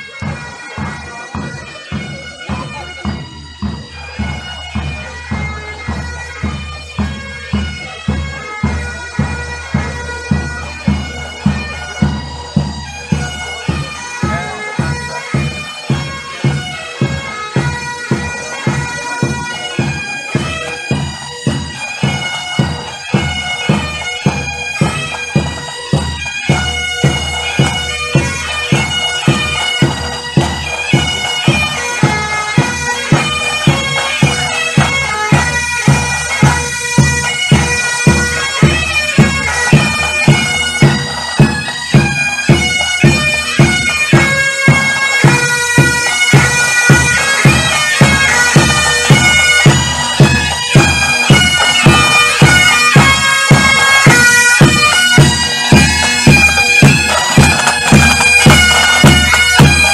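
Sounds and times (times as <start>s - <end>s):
bagpipes playing a tune: 0.0s - 59.9s
snare and bass drums marching: 0.2s - 59.9s.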